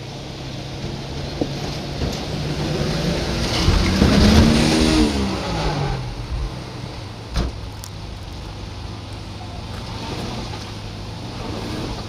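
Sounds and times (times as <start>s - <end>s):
truck engine revving and idling: 0.0s - 12.0s.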